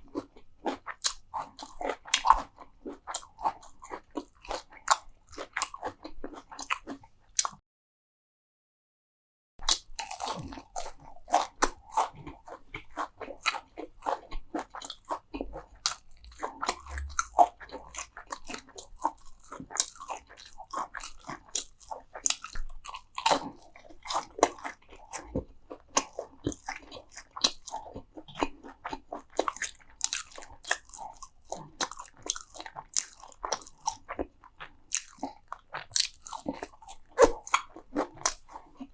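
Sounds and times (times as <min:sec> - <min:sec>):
crunchy food chewing: 0:00.0 - 0:07.6, 0:09.6 - 0:38.9.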